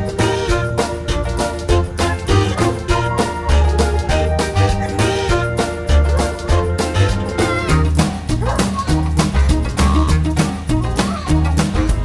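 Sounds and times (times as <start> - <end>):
upbeat music with bass and drums: 0.0 - 12.0.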